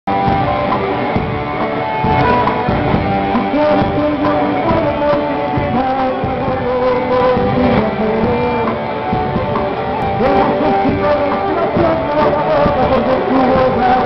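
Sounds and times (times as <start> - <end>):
rock band playing live: 0.1 - 14.0.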